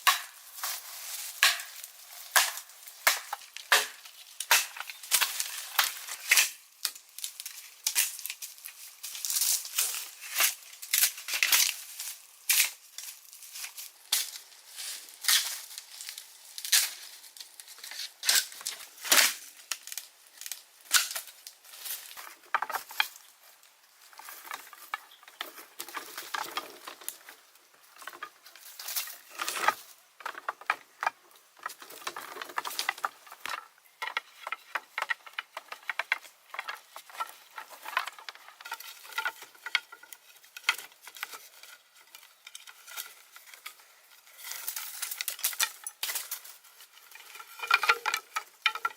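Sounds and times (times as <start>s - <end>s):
dry sticks and leaves rustling: 0.0s - 48.9s.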